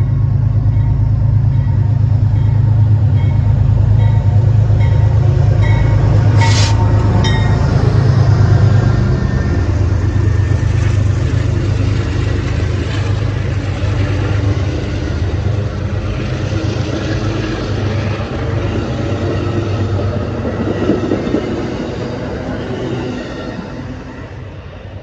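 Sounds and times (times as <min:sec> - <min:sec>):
diesel locomotive rumble: 0:00.0 - 0:25.0
train wheels rolling: 0:00.0 - 0:25.0.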